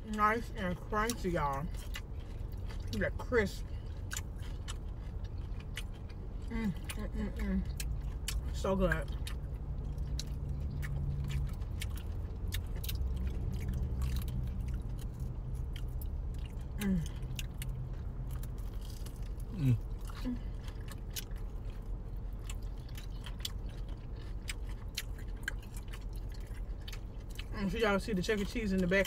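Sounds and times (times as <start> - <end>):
crunchy chewing: 0.8 - 29.0.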